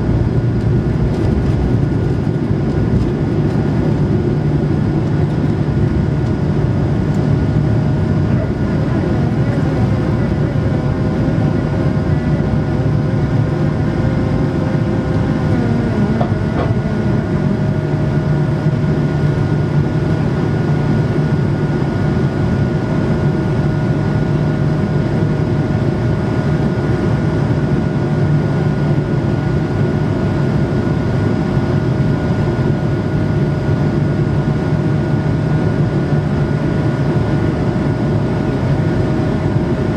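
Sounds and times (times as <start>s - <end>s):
airplane cabin engine and air noise: 0.0s - 39.9s.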